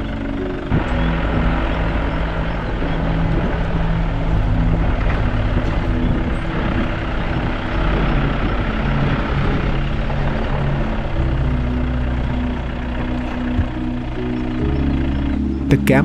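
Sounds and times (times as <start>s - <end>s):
car engine and road noise: 0.0s - 15.8s
low engine hum shifting pitch: 0.0s - 16.0s.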